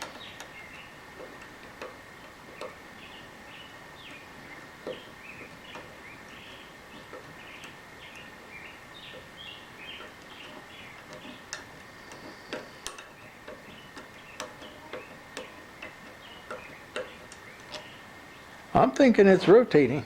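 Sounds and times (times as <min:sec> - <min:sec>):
sharp metallic clicks: 0:00.0 - 0:03.2, 0:04.0 - 0:18.0.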